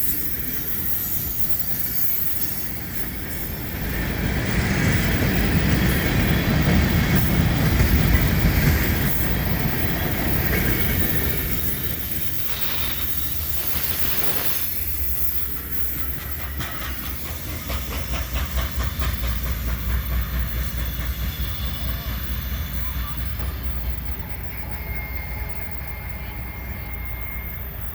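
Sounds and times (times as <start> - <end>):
freight train cars rumbling past: 0.0 - 27.9
wheels clacking over rail joints: 0.0 - 27.9.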